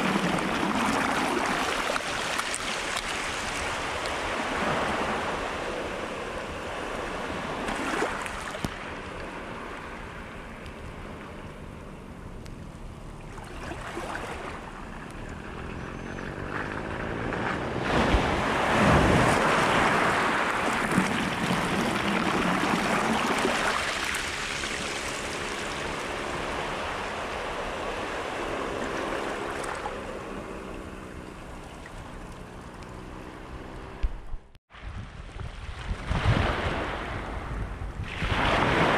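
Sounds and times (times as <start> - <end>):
sea waves washing on shore: 0.0 - 10.6, 13.2 - 15.4, 16.4 - 33.2, 34.8 - 38.9.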